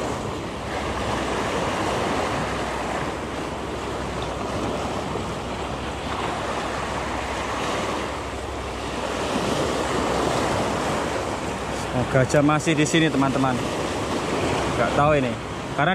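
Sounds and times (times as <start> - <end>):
surf washing over rocks: 0.0 - 15.9
wind buffeting microphone: 0.0 - 15.9.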